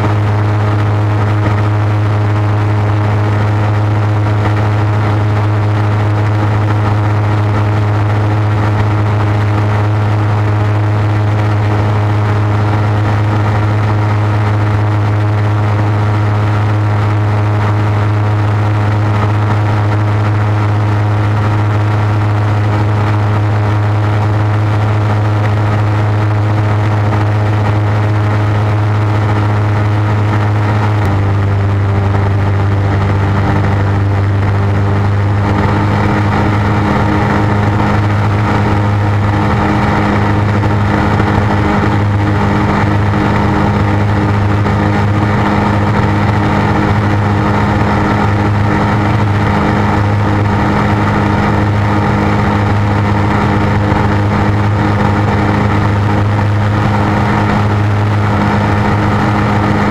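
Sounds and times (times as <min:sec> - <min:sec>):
propeller engine drone: 0:00.0 - 0:59.9
rushing noise: 0:00.0 - 0:59.9.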